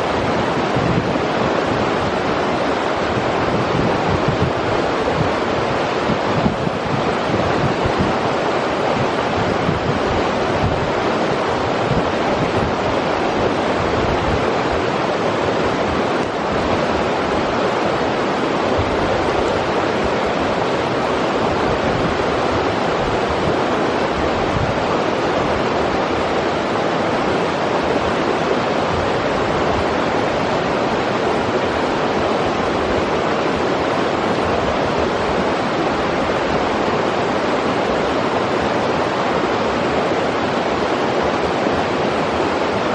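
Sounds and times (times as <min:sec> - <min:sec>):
river rushing over rocks: 0:00.0 - 0:42.9.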